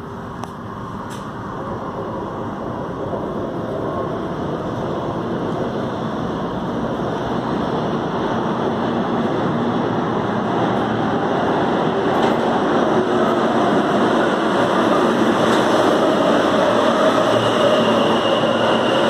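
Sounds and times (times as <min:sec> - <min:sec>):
subway train rumbling in tunnel: 0:00.0 - 0:19.0.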